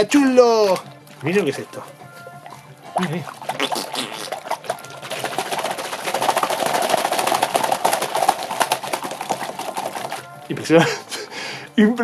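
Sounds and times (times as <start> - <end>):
squishy toy crackling in hands: 0.7 - 10.6.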